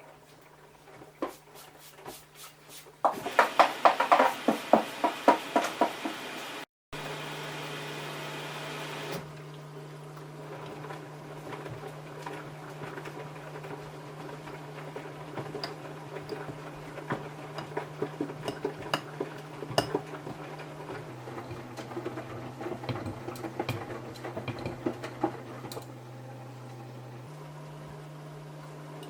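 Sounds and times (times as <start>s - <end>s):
washing machine motor hum: 0.2s - 29.0s.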